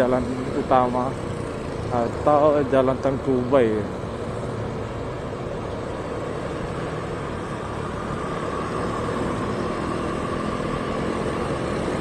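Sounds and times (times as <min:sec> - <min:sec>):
motorbike engine: 0:00.0 - 0:12.0
wind and road noise: 0:00.0 - 0:12.0.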